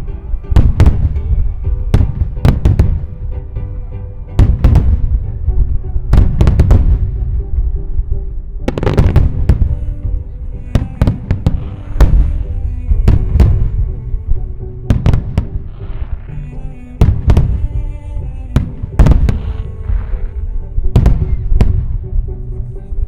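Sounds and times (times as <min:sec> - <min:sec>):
fireworks bursting: 0:00.0 - 0:22.3
music playing: 0:00.0 - 0:23.0.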